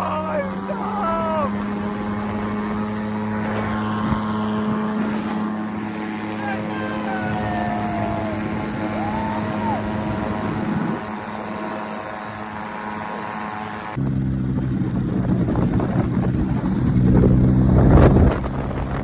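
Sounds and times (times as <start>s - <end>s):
car engine running: 0.0s - 19.0s
engine working hard: 0.0s - 19.0s.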